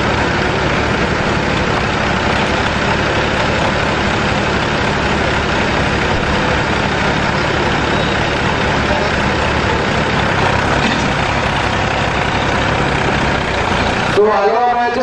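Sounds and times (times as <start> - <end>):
diesel tractor engines idling: 0.0 - 15.0.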